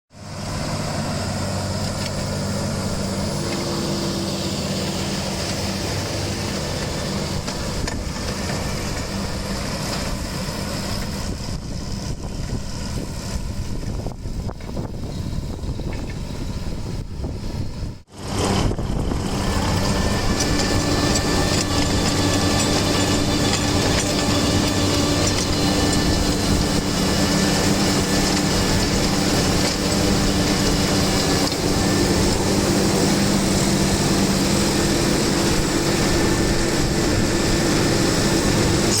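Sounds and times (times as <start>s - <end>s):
farm machinery working: 0.1s - 39.0s
tractor engine running: 0.1s - 39.0s.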